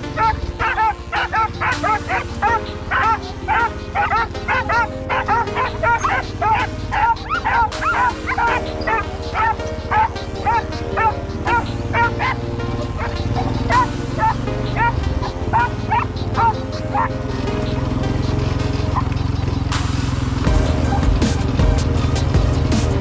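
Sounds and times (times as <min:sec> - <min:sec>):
atv engine running: 0:00.0 - 0:23.0
dogs barking and yipping: 0:00.0 - 0:23.0.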